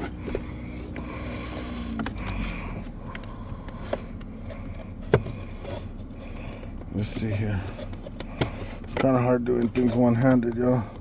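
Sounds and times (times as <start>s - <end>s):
low steady hum: 0.0s - 11.0s
plastic trim scraping and clicking: 1.9s - 10.8s.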